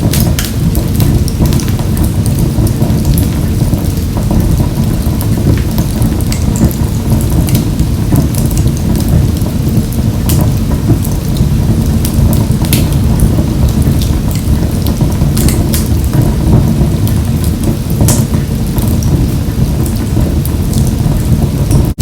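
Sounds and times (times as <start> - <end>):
fire crackles and pops: 0.0 - 22.0
wood fire burning: 0.0 - 22.0.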